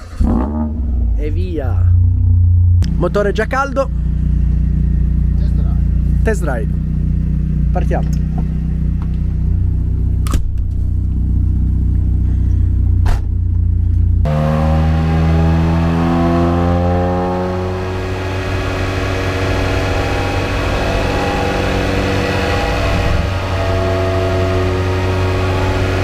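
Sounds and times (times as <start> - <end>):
car engine revving under load: 0.0 - 26.0.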